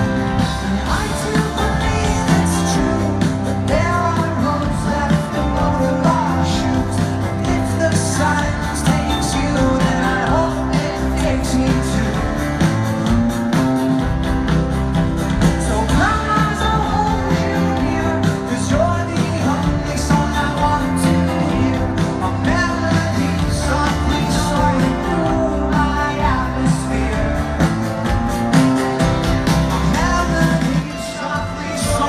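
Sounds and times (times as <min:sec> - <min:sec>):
person singing: 0:00.0 - 0:12.6, 0:15.4 - 0:28.2, 0:29.6 - 0:32.0
drums: 0:00.0 - 0:32.0.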